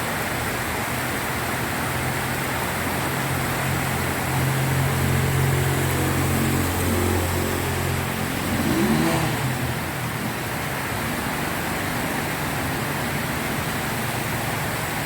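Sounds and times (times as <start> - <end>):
heavy rain falling: 0.0 - 15.0
low engine hum: 0.0 - 15.0.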